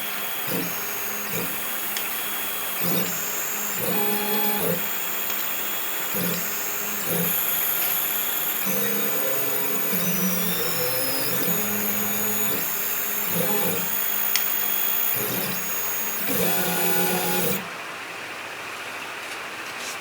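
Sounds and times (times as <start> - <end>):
stepper motors whining: 0.0 - 17.7
steady high whine and hiss: 0.0 - 17.9.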